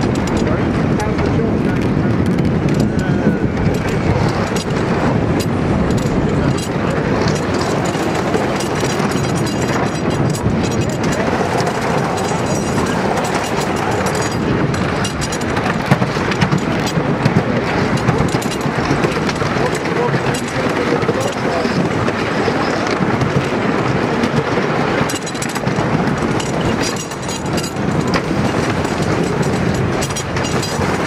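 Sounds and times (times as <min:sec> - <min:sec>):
roller coaster wheels rumbling: 0:00.0 - 0:31.0.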